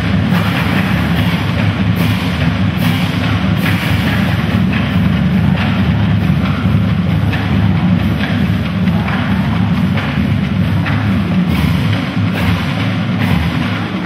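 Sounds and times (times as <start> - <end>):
loud music with bass-drum beat: 0.0 - 14.0.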